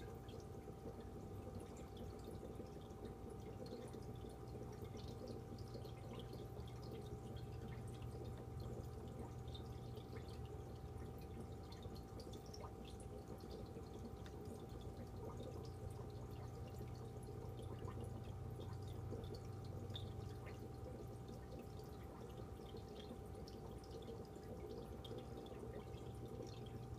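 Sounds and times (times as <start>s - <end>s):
filter hum: 0.0s - 26.9s
water trickling and dripping: 0.0s - 26.9s.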